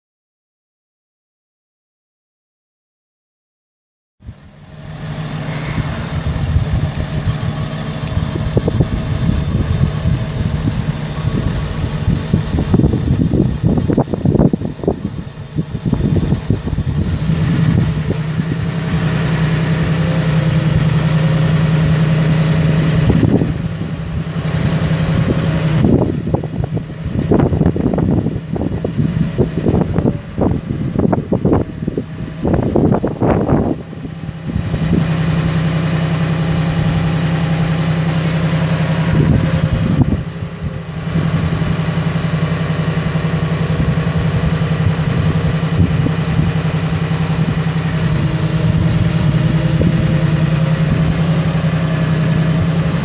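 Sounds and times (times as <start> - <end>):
diesel engine humming: 4.2 - 53.0
uneven rushing noise: 4.2 - 53.0.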